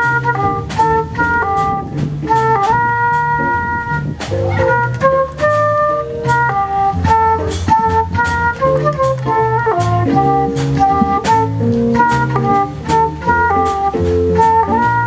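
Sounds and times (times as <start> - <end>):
chromatic harmonica melody: 0.0 - 15.0
drum kit beat: 0.0 - 15.0
low bass notes: 0.0 - 15.0.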